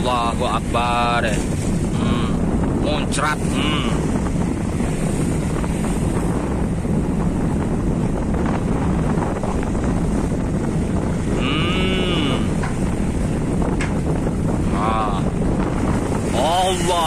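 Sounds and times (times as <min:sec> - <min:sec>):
waves breaking against ship hull: 0:00.0 - 0:17.0
wind buffeting microphone: 0:00.0 - 0:17.0.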